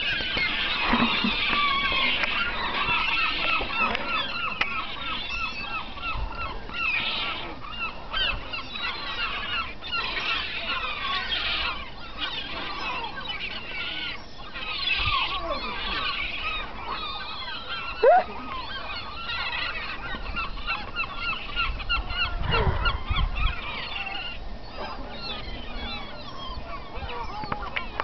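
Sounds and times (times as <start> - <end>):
flock of gulls calling: 0.0 - 28.0.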